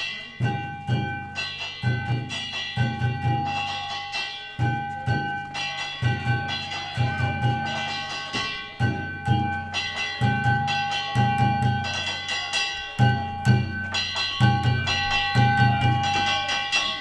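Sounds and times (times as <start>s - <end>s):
large drum beats: 0.0s - 17.0s
small hand gongs ringing: 0.0s - 17.0s.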